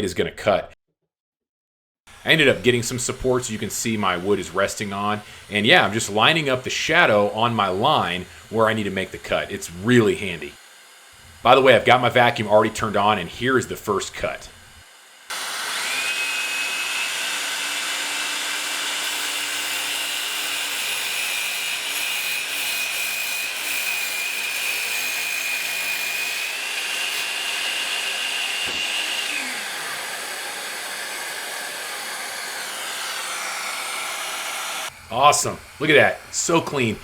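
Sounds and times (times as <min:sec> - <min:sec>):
miter saw motor whining: 0:02.1 - 0:37.0
shop vacuum hissing: 0:02.1 - 0:37.0.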